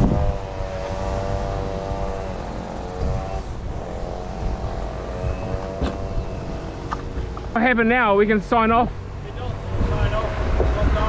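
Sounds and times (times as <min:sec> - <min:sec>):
truck engine droning hum: 0:00.0 - 0:11.0
wind rumble on microphone: 0:00.0 - 0:11.0.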